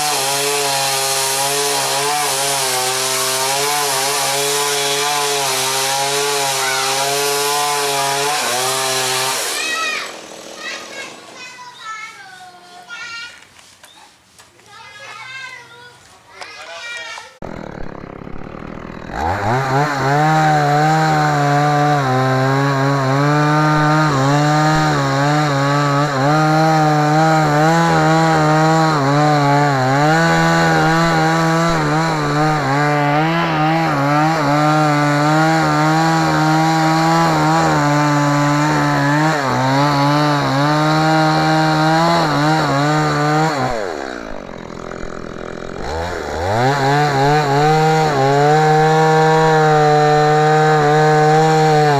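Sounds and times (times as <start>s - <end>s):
chainsaw sawing through wood: 0.0s - 13.2s, 16.4s - 51.9s.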